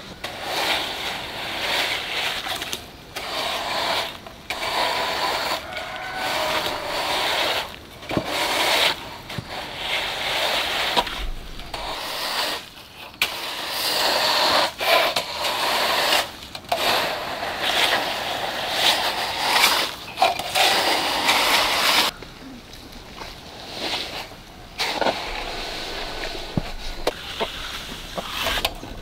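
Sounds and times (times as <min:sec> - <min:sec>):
tool scraping gritty material: 0:00.1 - 0:29.0.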